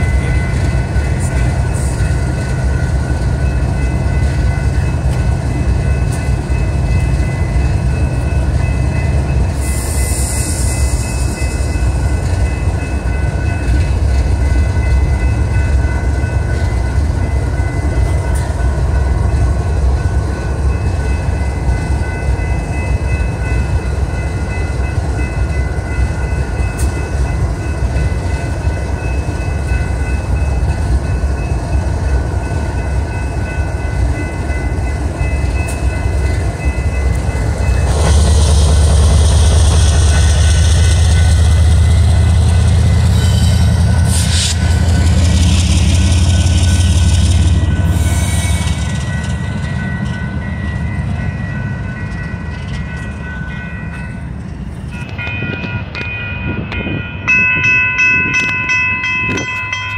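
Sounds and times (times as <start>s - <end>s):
locomotive engine rumbling: 0.0s - 59.9s.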